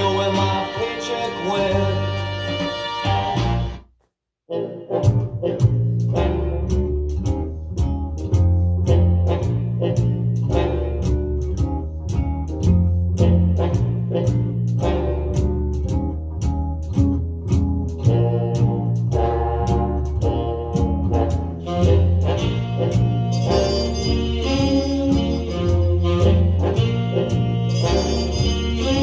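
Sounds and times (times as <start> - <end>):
big band swing music: 0.0 - 3.8, 4.5 - 29.0.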